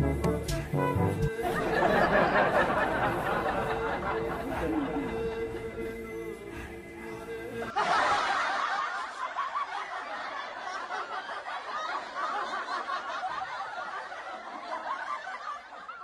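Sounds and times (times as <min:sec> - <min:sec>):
group of people laughing: 0:01.4 - 0:16.0.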